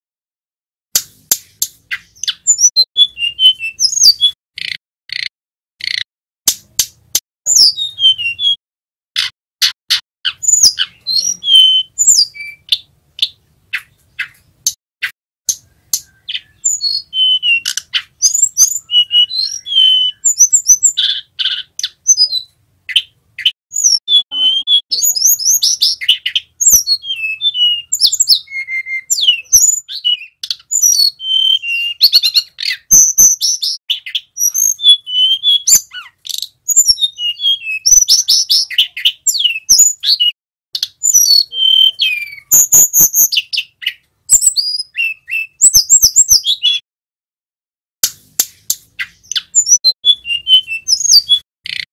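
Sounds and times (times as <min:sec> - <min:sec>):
bird singing whistled trills: 0:01.9 - 0:04.8, 0:07.5 - 0:08.6, 0:10.3 - 0:14.6, 0:15.5 - 0:46.8, 0:49.0 - 0:51.9.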